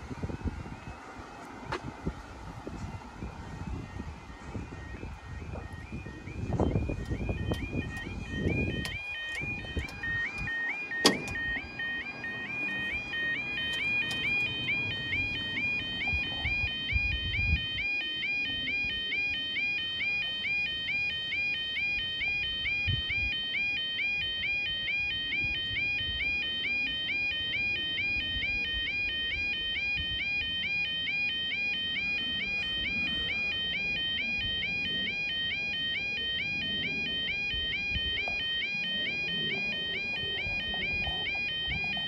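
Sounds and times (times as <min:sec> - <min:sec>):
level crossing alarm warble: 0:00.0 - 0:42.0.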